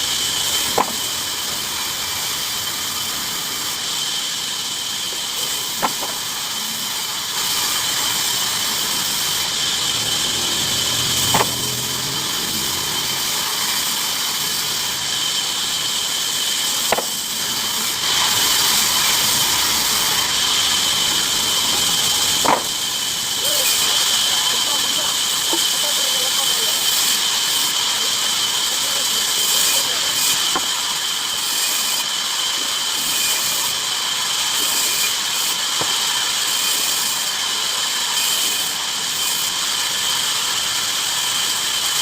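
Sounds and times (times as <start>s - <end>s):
bandsaw running with high whine: 0.0s - 42.0s.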